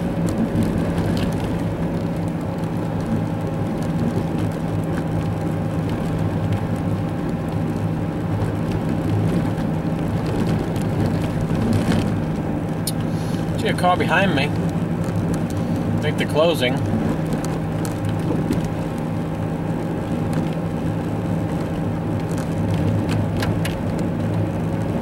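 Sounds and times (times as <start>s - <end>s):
car engine hum: 0.0s - 25.0s
tyre and road noise: 0.0s - 25.0s.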